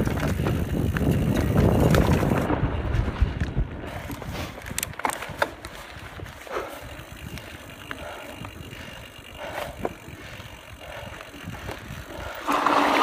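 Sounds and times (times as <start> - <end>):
bike rattling: 0.0 - 13.0
bike tyres rumbling on gravel: 0.0 - 13.0.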